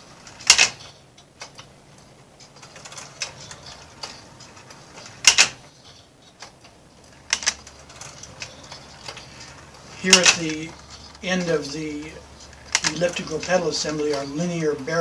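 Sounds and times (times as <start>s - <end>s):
marble run mechanism clicking: 0.2s - 15.0s.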